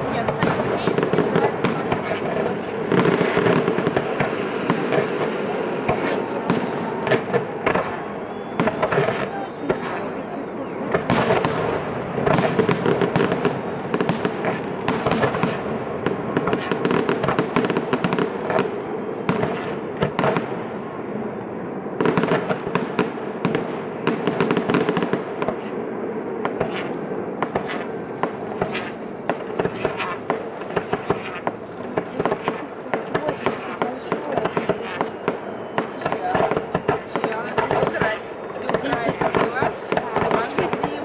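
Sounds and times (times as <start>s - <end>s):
fireworks bangs and crackling: 0.0s - 41.0s.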